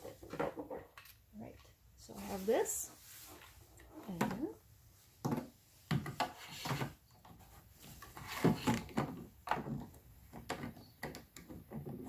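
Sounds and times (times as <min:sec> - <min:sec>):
handling knocks and rubbing: 0:00.0 - 0:12.0.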